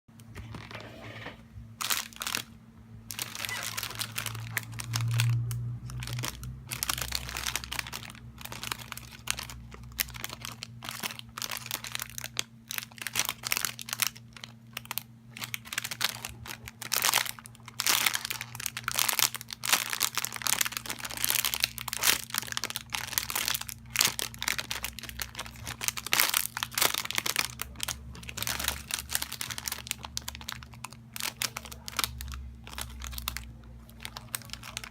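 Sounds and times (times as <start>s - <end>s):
low electrical hum: 0.1s - 34.9s
plastic wrapping crinkling: 1.8s - 2.5s, 3.1s - 34.9s.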